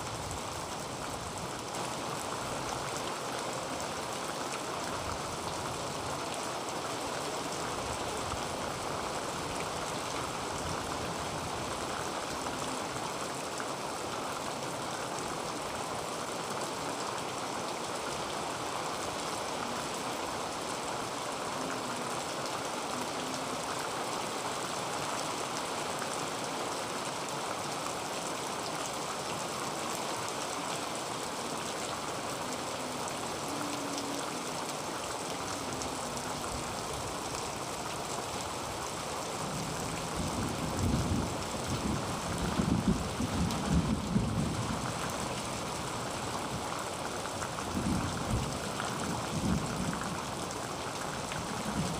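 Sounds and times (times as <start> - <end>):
heavy rain on a tin roof: 0.0 - 51.9.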